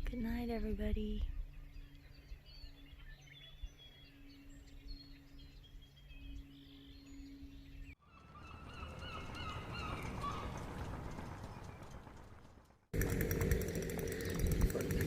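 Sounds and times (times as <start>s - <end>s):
birds calling: 1.2s - 15.0s.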